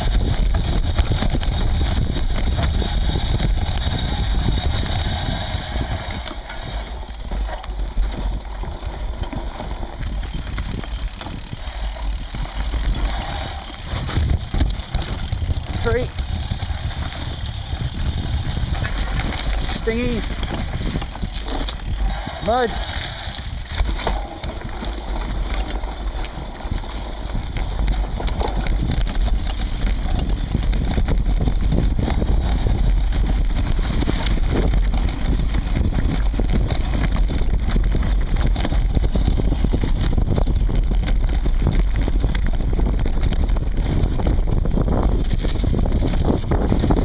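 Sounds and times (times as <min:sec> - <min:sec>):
bike knocks and rattles: 0:00.0 - 0:47.0
bike tyre rumble: 0:00.0 - 0:47.0
wind buffeting microphone: 0:00.0 - 0:47.0.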